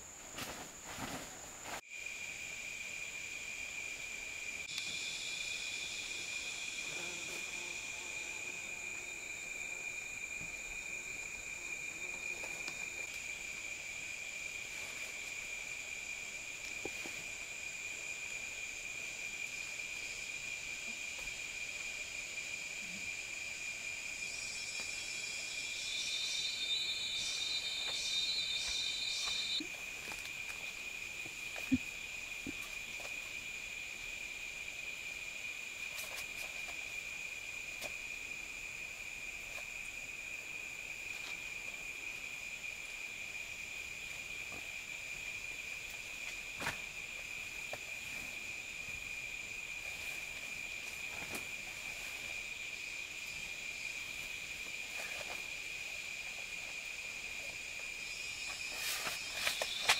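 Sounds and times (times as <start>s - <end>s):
insect chorus drone: 0.0s - 59.9s
pulsing insect call: 0.0s - 59.9s.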